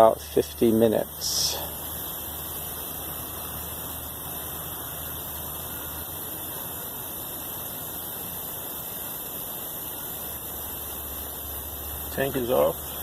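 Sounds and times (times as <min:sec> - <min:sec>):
compressor humming: 0:00.0 - 0:13.0
steady gas hiss: 0:00.0 - 0:13.0.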